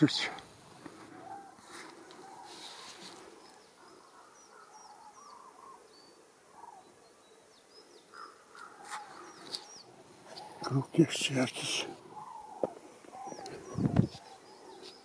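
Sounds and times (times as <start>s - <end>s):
raven calling: 0.0s - 7.0s, 7.9s - 15.0s
flock of birds calling: 0.0s - 15.0s.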